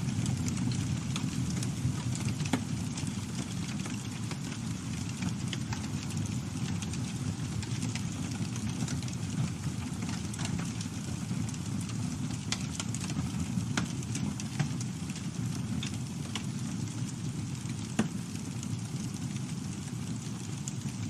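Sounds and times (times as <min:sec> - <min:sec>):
burning wood crackling and popping: 0:00.0 - 0:21.0
campfire flames rumbling: 0:00.0 - 0:21.0.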